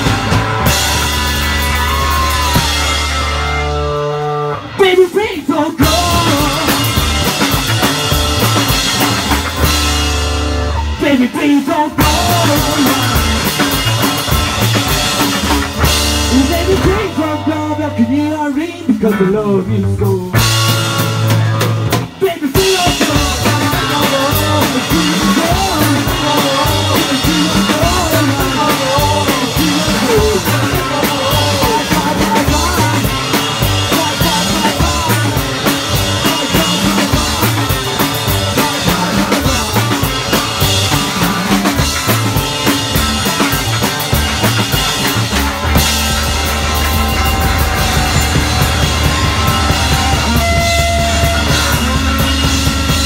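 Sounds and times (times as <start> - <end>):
driving drum beat: 0.0 - 53.0
live rock band playing: 0.0 - 53.0.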